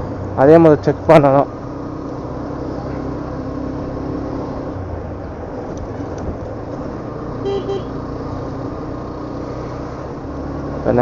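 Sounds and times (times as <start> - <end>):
motorcycle engine hum: 0.0 - 11.0.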